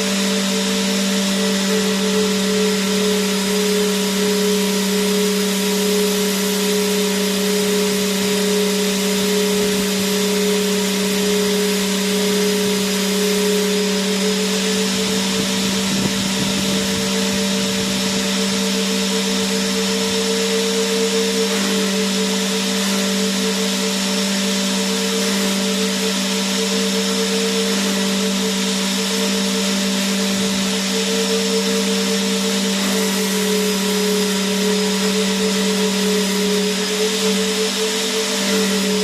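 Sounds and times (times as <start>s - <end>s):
vacuum cleaner motor running: 0.0s - 39.0s.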